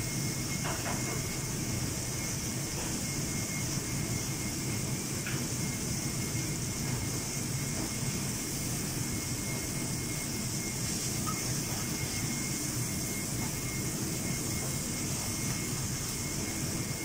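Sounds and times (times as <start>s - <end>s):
kitchen ventilation roar: 0.0s - 17.0s.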